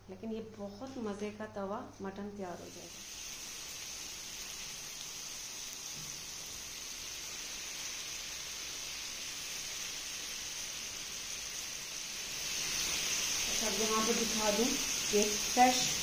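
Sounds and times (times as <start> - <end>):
meat sizzling on a hot pan: 2.5 - 16.0.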